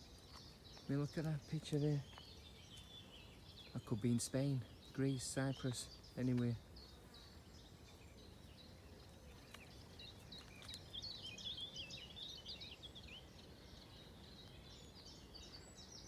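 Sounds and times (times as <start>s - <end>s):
songbird twittering: 0.0s - 16.0s.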